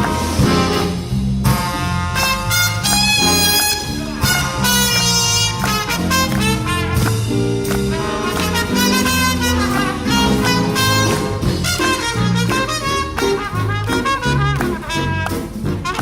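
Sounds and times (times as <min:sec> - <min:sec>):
big band swing jazz: 0:00.0 - 0:16.0
walking bass line: 0:00.0 - 0:16.0.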